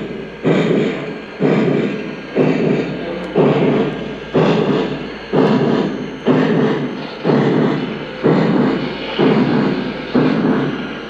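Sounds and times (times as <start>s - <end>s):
model train steam chuffs: 0.0s - 11.0s.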